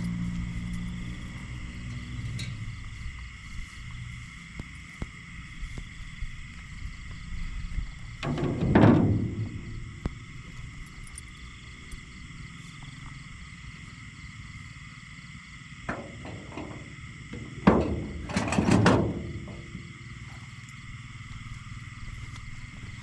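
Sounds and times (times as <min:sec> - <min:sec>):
night insects and frogs chorus: 0:00.0 - 0:23.0.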